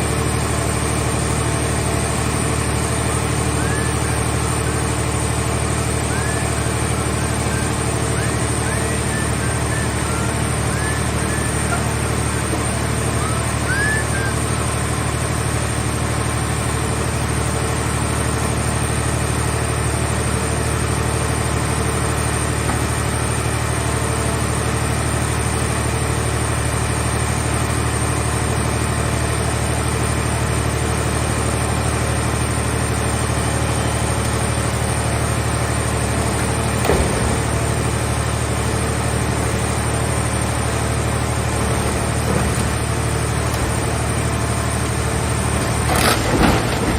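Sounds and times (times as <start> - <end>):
baler engine running: 0.0 - 46.9.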